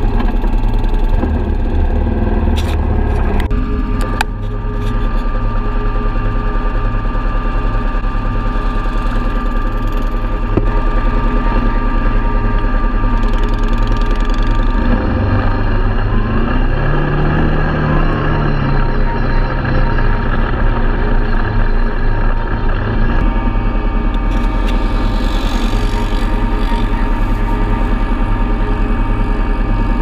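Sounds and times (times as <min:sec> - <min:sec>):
quad bike engine idling and revving: 0:00.0 - 0:30.0.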